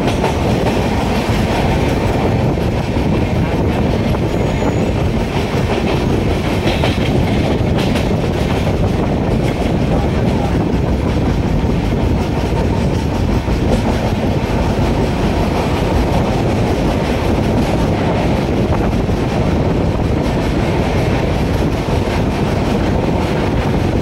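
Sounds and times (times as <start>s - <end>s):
passenger train running on track: 0.0s - 24.0s.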